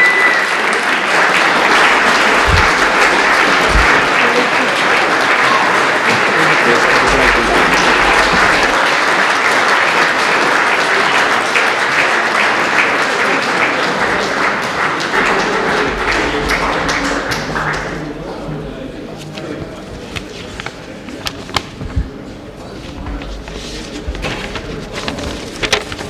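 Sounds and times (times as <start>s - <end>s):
crowd applause: 0.0s - 21.0s.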